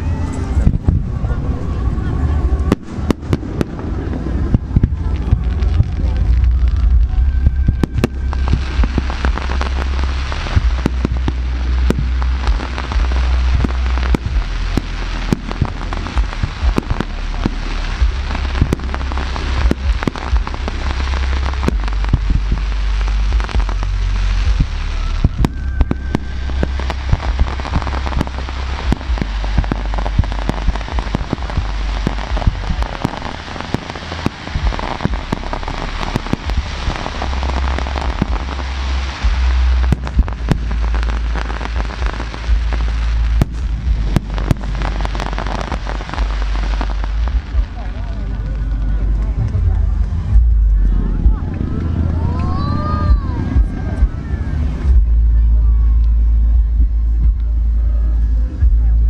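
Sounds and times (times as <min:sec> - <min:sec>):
deep rumble: 0:00.0 - 0:59.0.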